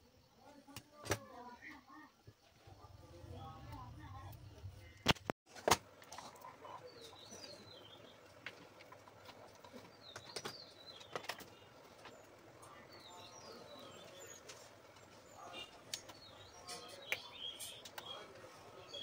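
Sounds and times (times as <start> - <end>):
faint birds chirping: 0.0 - 5.1, 6.0 - 19.0.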